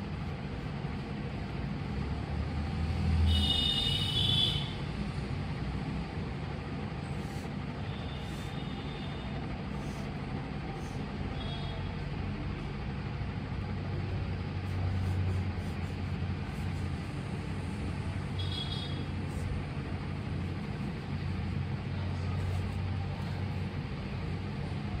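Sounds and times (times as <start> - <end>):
low hum and rumble: 0.0 - 25.0.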